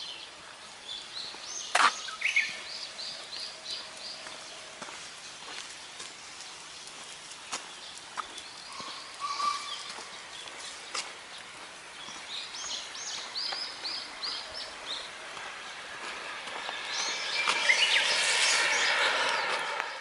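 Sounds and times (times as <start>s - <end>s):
outdoor background noise: 0.0s - 20.0s
songbird singing: 0.0s - 20.0s.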